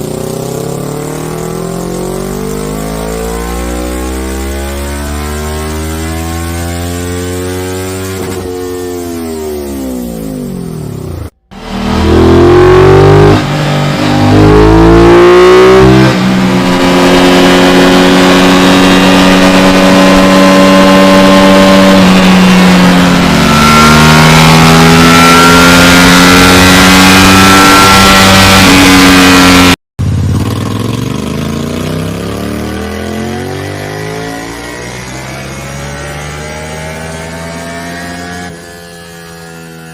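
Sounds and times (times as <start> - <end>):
quieter motorcycle exhaust: 0.0 - 35.6
motorcycle revving and accelerating: 0.0 - 39.9.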